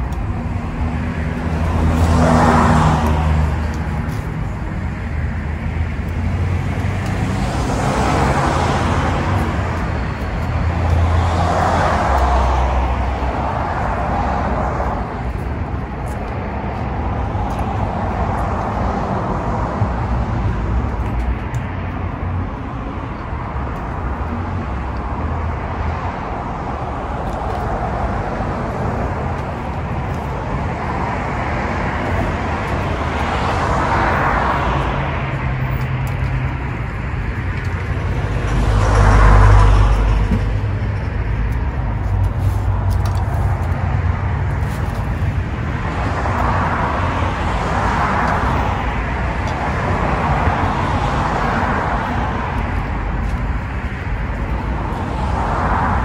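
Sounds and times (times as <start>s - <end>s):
cars passing by: 0.0s - 56.0s.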